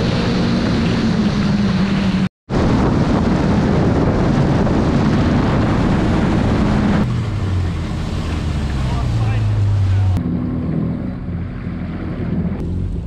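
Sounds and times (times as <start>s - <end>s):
wind buffeting microphone: 0.0s - 12.6s
jet ski engine running: 0.0s - 13.0s
water rushing: 0.0s - 13.0s.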